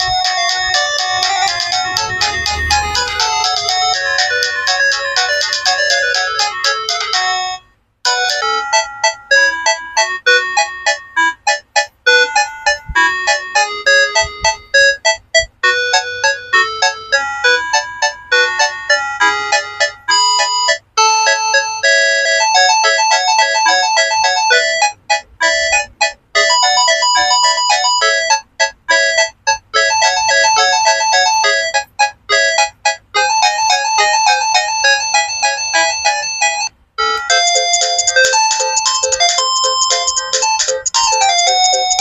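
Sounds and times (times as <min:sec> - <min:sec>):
polyphonic phone ringtones: 0:00.0 - 0:42.0.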